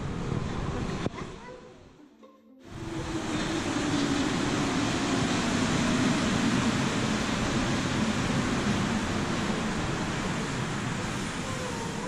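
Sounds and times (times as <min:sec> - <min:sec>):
train pulling in and braking: 0:00.0 - 0:01.2, 0:02.6 - 0:12.0.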